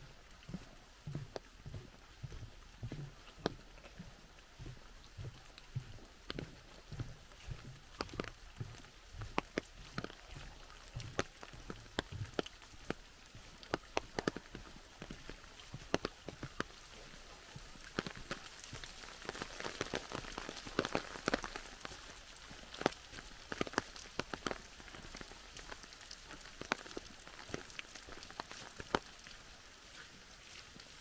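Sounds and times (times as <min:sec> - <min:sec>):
large drops dripping: 0:00.0 - 0:31.0
rain patter: 0:00.0 - 0:31.0.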